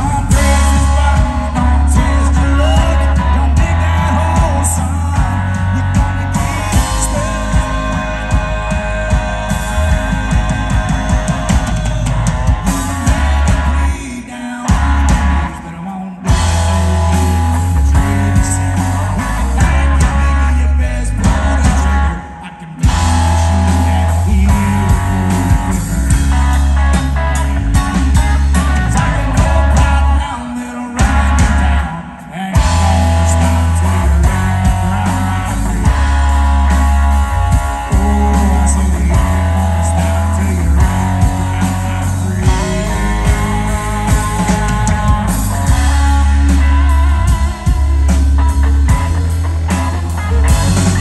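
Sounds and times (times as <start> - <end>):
live rock band playing: 0.0 - 51.0.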